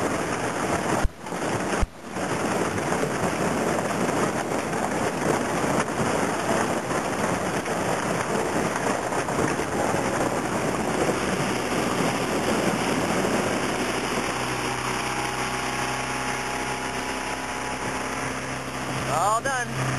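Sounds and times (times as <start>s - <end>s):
outboard motor hum: 0.0s - 19.9s
water rushing along hull: 0.0s - 19.9s.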